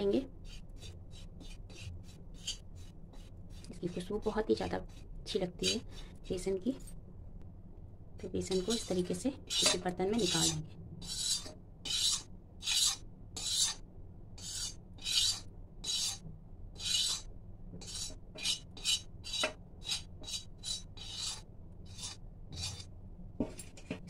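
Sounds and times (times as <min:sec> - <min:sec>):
metal spoon scraping metal pan: 0:00.4 - 0:06.5, 0:08.4 - 0:13.8, 0:14.4 - 0:16.2, 0:16.8 - 0:22.9.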